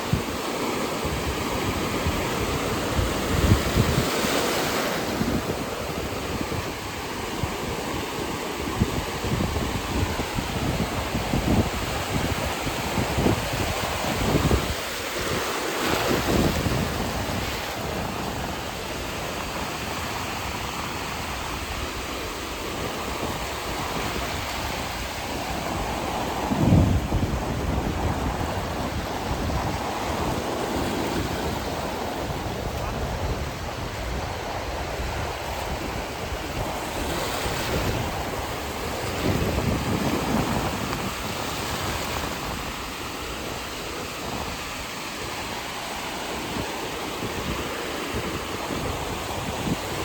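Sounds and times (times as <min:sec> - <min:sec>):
sea surf washing onto beach: 0:00.0 - 0:50.0
wind buffeting microphone: 0:00.0 - 0:50.0.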